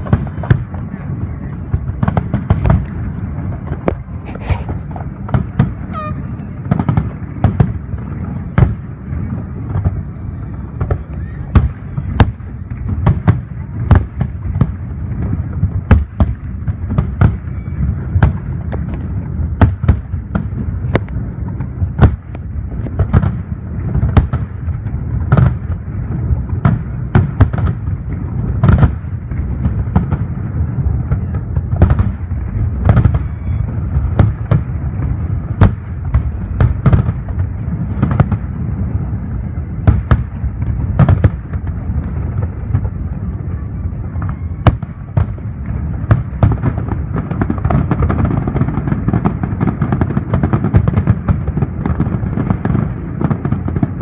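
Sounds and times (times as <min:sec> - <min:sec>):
distant fireworks booms: 0:00.0 - 0:54.0
fireworks bangs and cracks: 0:00.0 - 0:54.0.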